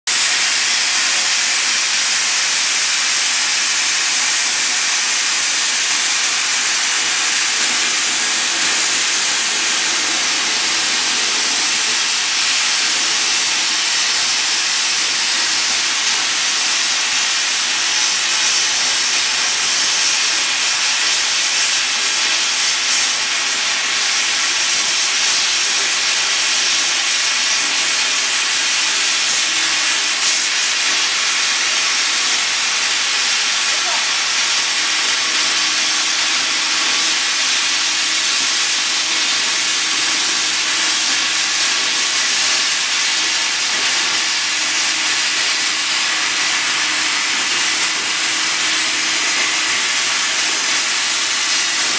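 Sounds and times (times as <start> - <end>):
plasma torch hissing: 0.1 - 51.9.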